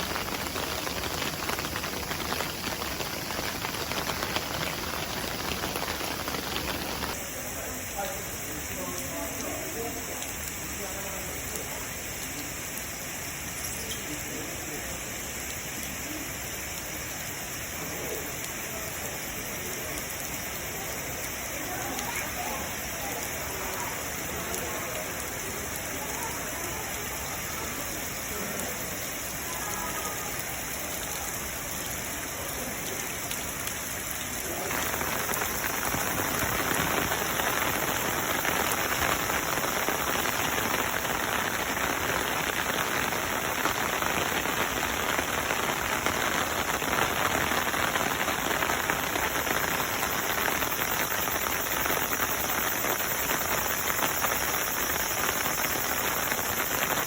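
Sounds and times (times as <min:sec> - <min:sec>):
rain pattering on surfaces: 0:00.0 - 0:57.0.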